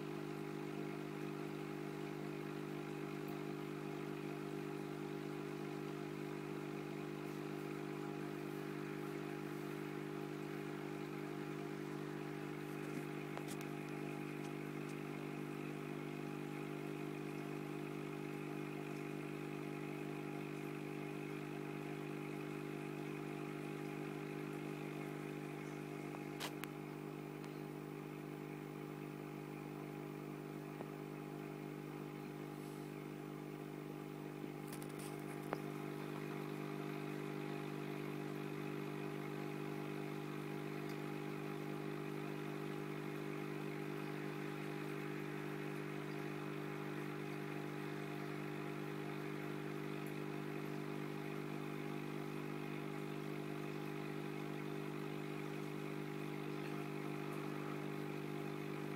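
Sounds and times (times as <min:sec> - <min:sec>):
aquarium pump humming: 0:00.0 - 0:58.9.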